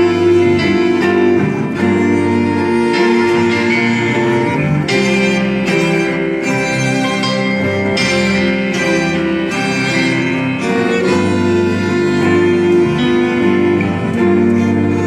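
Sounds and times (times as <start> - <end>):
electric guitars: 0.0 - 15.0
keyboard: 0.0 - 15.0
violins and cello bowing: 0.0 - 15.0.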